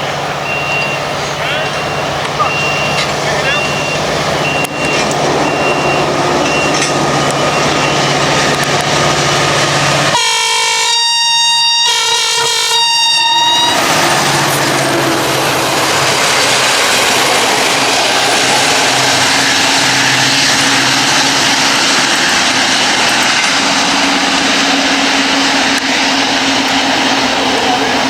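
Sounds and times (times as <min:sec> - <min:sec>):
train wheels rushing on rails: 0:00.0 - 0:28.0.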